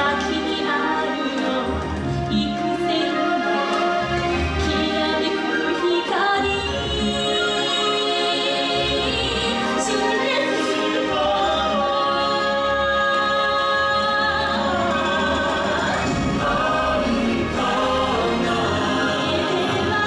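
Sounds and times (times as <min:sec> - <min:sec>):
backing music: 0:00.0 - 0:20.0
choir singing long notes: 0:02.9 - 0:20.0.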